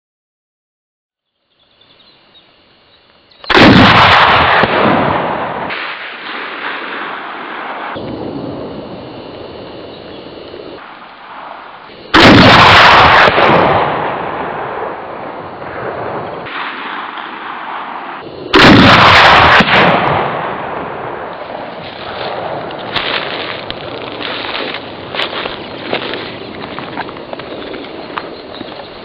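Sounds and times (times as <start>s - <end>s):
rifle shots with echo: 3.5s - 8.7s, 10.6s - 28.8s.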